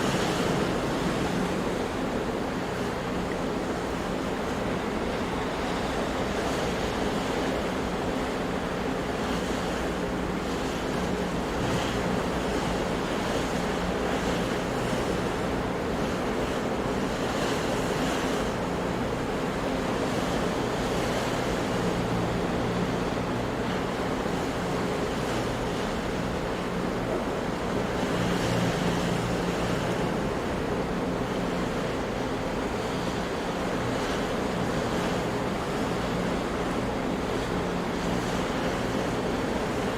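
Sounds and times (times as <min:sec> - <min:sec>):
hiss of breaking waves: 0:00.0 - 0:39.9
ocean surf washing: 0:00.0 - 0:39.9.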